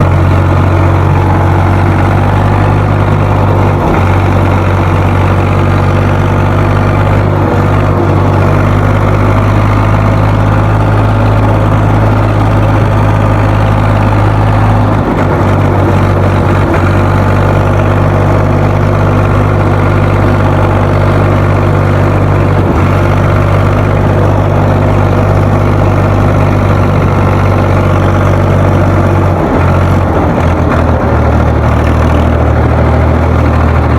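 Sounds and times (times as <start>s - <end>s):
tractor engine at full throttle: 0.0s - 33.9s.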